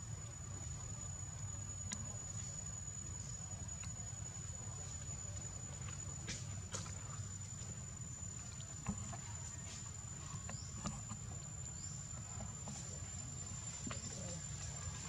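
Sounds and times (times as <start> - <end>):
light ticks and rustles: 0.1 - 15.0.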